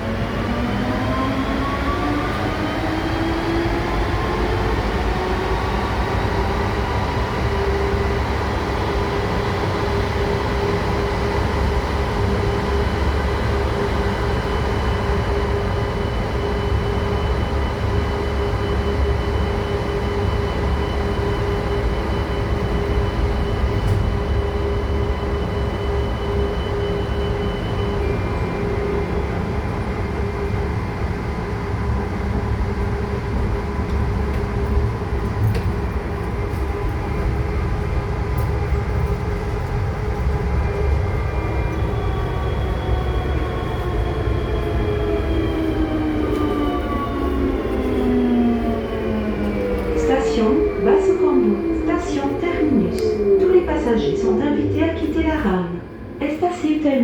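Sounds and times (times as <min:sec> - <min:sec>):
metro train running: 0:00.0 - 0:57.0.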